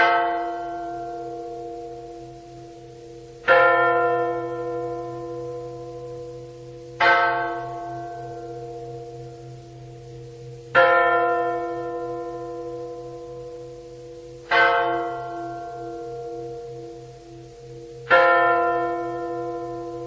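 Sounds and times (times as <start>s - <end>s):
large bell tolling: 0.0s - 20.0s
low pulsing drone: 0.0s - 20.0s.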